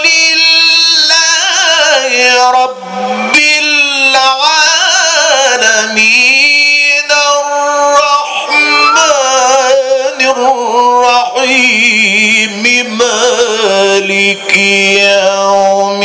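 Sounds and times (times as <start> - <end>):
man chanting recitation: 0.0 - 16.0.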